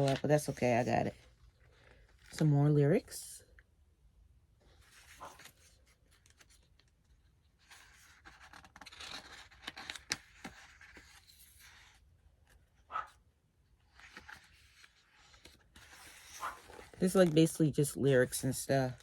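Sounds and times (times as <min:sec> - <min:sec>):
pages turning and rustling: 0:00.0 - 0:02.5, 0:04.7 - 0:12.8, 0:13.8 - 0:19.0.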